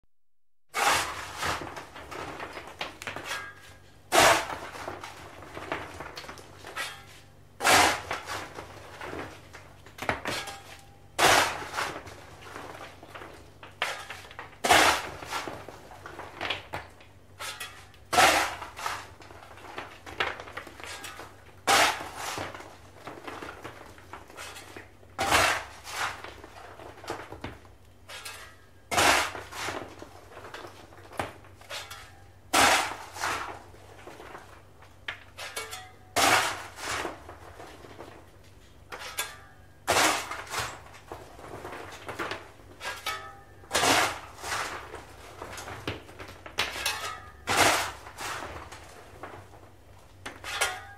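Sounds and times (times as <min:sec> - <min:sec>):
shovel scraping coal: 0:00.7 - 0:27.4, 0:28.0 - 0:50.9.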